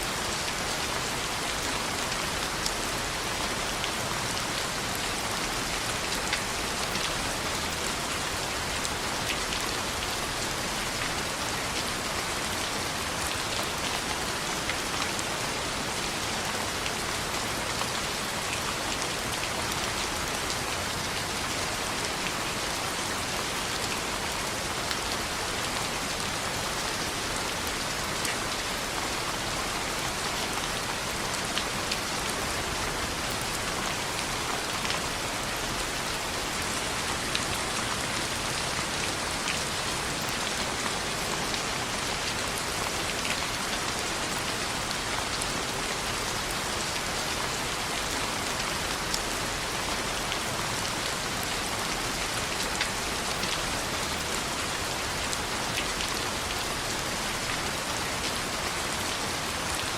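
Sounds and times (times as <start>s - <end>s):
rain falling on a window: 0.0s - 59.9s.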